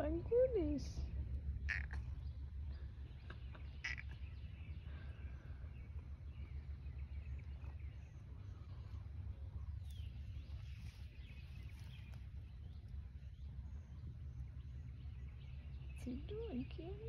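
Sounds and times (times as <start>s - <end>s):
wind rumble on microphone: 0.0s - 17.0s
faint bird chirps: 1.6s - 17.0s.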